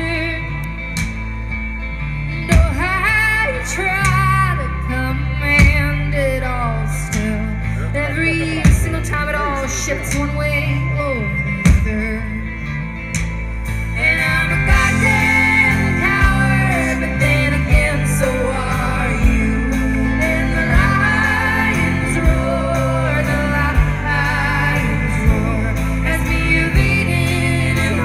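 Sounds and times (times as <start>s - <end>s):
live folk band playing: 0.0s - 28.0s
women singing: 2.5s - 12.6s, 13.8s - 28.0s.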